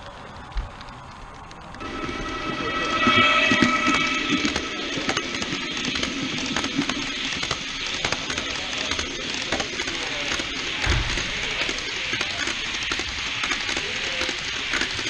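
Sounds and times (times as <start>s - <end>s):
model train wheels clicking on track: 2.7s - 15.0s.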